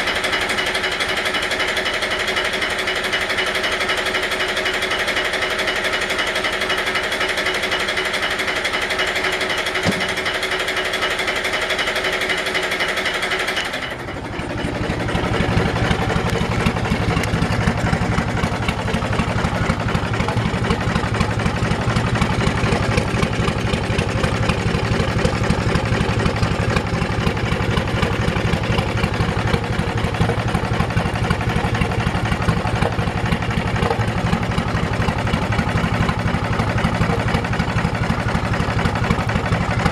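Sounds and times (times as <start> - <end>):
boat engine idling: 0.0 - 39.9.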